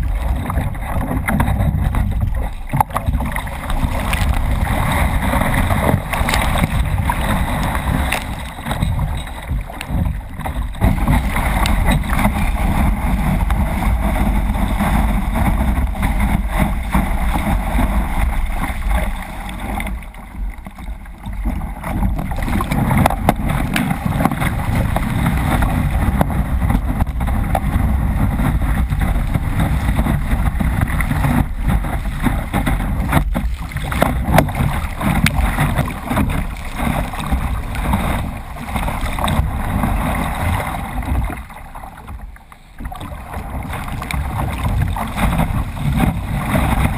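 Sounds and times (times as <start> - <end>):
wind buffeting microphone: 0.0 - 42.2
rushing whitewater: 0.0 - 46.9.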